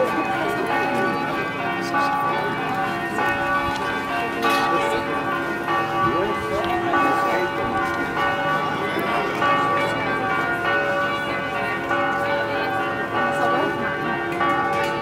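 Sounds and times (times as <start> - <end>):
church bells ringing: 0.0 - 15.0
people talking: 0.0 - 15.0.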